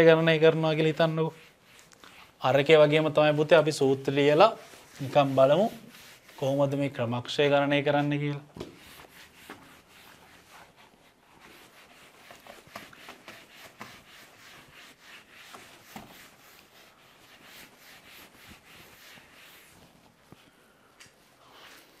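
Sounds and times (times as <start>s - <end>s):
eraser scrubbing whiteboard: 0.0s - 7.1s, 8.0s - 20.3s, 21.5s - 22.0s.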